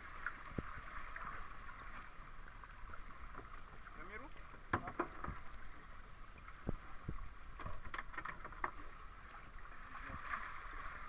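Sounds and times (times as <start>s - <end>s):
wind and sea hiss: 0.0s - 11.0s.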